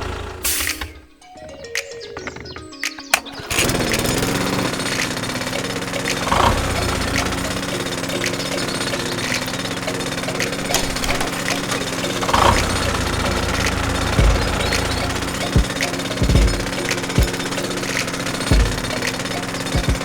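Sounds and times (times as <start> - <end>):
model machine motor rattling: 0.0 - 20.0
clicks: 0.4 - 20.0.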